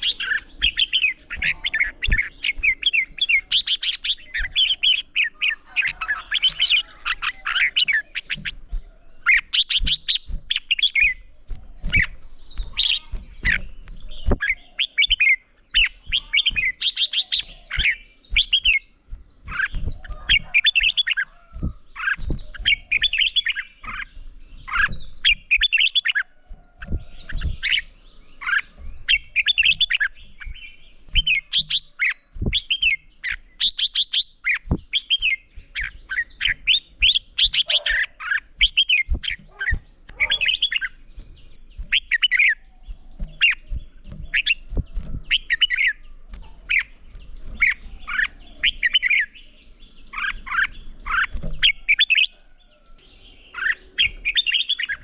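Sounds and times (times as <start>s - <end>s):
bulbuls singing: 0.0s - 55.0s.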